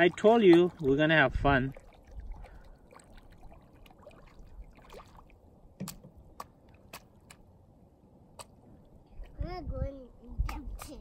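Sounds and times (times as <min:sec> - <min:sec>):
child wading through shallow water: 0:00.0 - 0:09.4.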